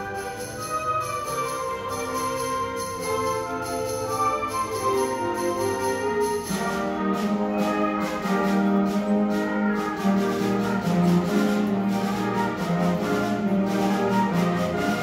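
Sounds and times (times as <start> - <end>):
concert band playing: 0.0 - 15.0
flutes and saxophones: 0.0 - 15.0.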